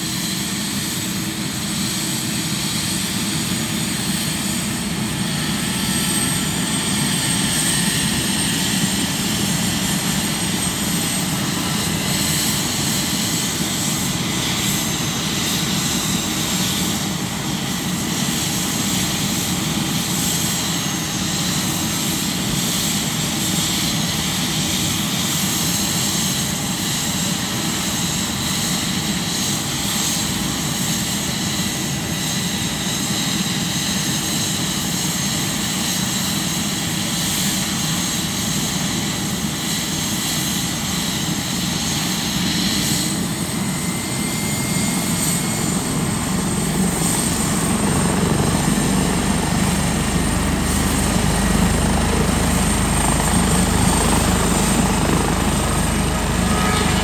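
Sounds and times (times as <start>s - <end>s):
helicopter rotor drone: 0.0s - 57.0s
helicopter turbine whine: 0.0s - 57.0s.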